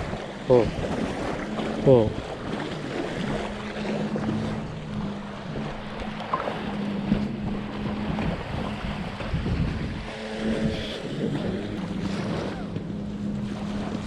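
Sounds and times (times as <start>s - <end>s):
sea surf: 0.0s - 14.0s
steady low hum: 0.0s - 14.0s
wind buffeting microphone: 0.0s - 14.0s.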